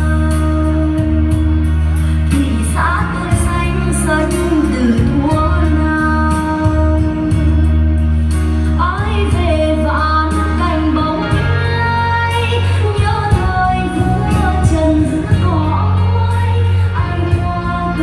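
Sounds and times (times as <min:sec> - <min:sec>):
woman singing: 0:00.0 - 0:07.9, 0:08.8 - 0:18.0
band accompaniment: 0:00.0 - 0:18.0
steady bass line: 0:00.0 - 0:18.0.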